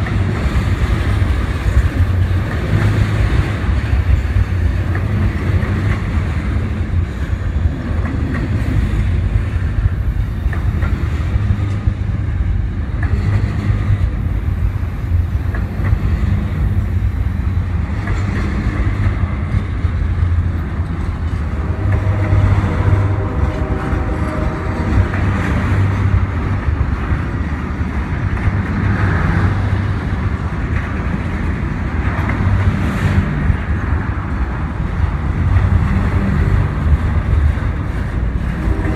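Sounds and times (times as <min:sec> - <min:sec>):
rail clatter: 0:00.0 - 0:38.9
train rumbling past: 0:00.0 - 0:38.9.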